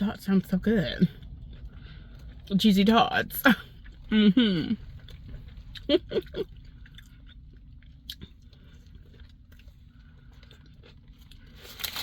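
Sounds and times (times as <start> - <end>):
faint close-up chewing: 0.3 - 12.0.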